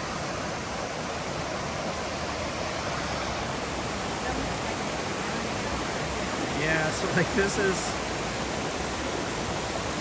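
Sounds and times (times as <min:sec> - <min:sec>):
waterfall and stream rushing: 0:00.0 - 0:10.0.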